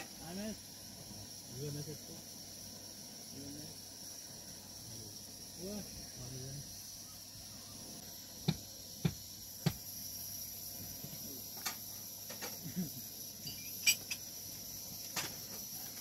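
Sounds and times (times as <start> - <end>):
high-pitched insect hiss: 0.0 - 16.0.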